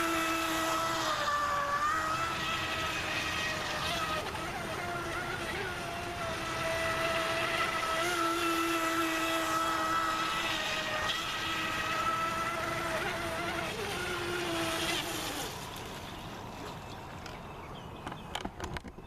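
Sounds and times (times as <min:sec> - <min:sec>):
electric motor whine: 0:00.0 - 0:16.8.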